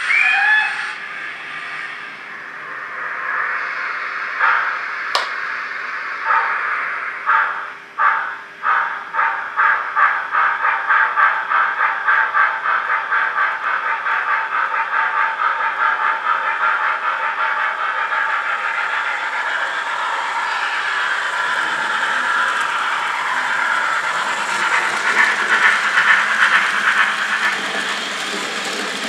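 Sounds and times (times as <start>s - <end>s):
steam locomotive chuffs from speaker: 3.5s - 29.0s.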